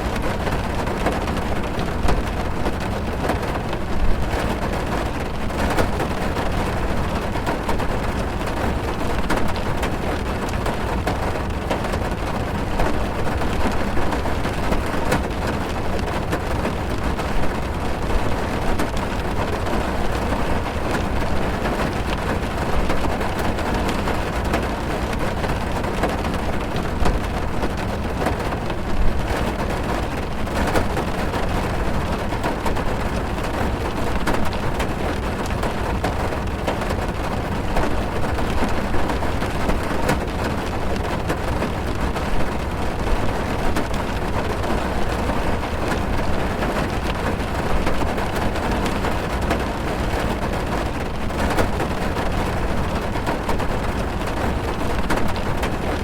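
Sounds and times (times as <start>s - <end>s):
heavy rain drumming on car roof: 0.0s - 56.0s.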